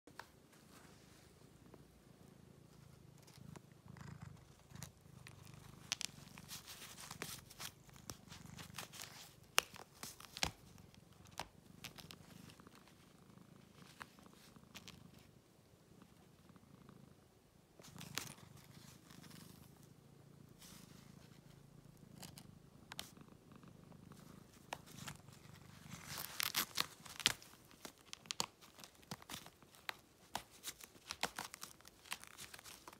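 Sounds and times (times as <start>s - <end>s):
cat purring: 0.6s - 32.9s.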